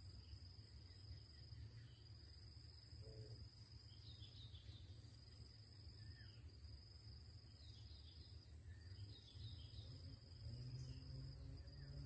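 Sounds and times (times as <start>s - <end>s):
faint bird chirps: 0.0s - 6.6s, 7.4s - 12.0s
insect drone: 0.0s - 12.0s.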